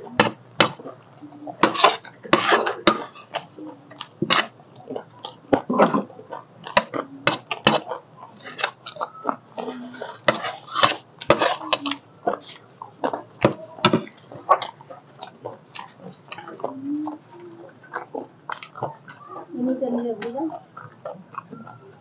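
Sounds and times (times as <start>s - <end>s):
crunchy chewing: 0.2s - 22.0s.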